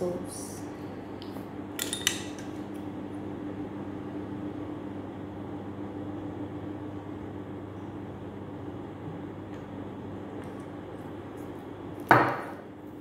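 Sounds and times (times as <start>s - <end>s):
kitchen appliance humming: 0.0s - 13.0s.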